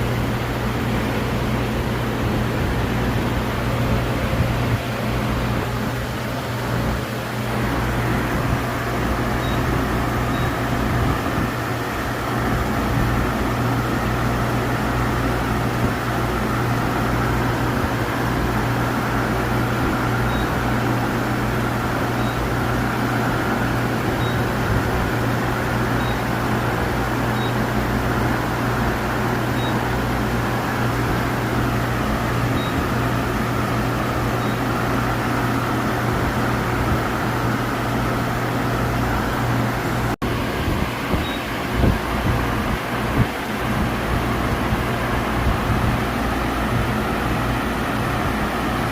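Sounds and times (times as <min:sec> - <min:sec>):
high machine whine: 0:00.0 - 0:48.9
milling machine hum: 0:00.0 - 0:48.9.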